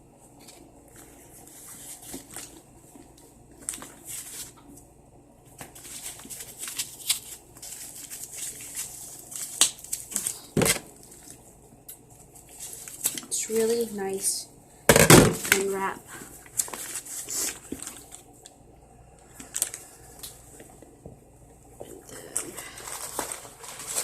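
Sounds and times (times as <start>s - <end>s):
wrapping rustling and crinkling: 0.3s - 4.9s, 5.5s - 14.4s, 15.3s - 18.6s, 19.2s - 20.8s, 22.4s - 24.0s.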